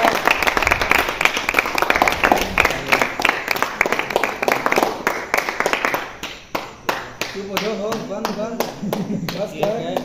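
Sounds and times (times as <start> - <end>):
group of people clapping: 0.0 - 10.0.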